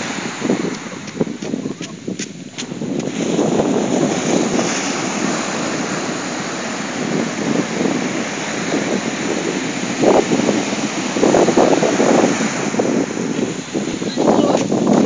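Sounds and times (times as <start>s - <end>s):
sea surf breaking on beach: 0.0s - 15.0s
wind buffeting microphone: 0.0s - 15.0s.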